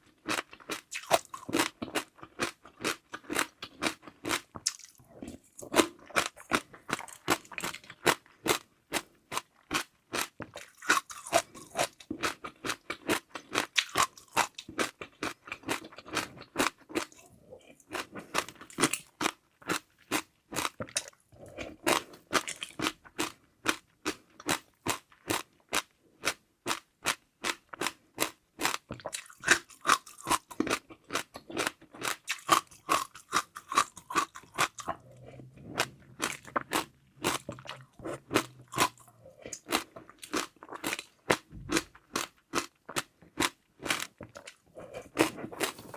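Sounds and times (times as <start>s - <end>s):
close-miked crunchy chewing: 0.0s - 45.9s.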